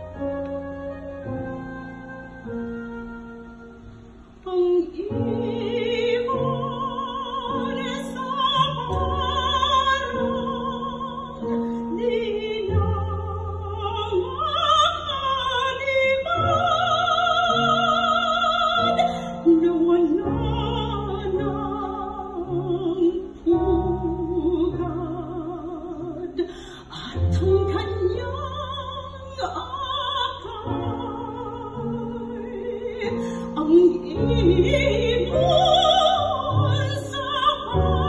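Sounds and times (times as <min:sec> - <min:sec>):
woman singing with vibrato: 0:04.4 - 0:38.0.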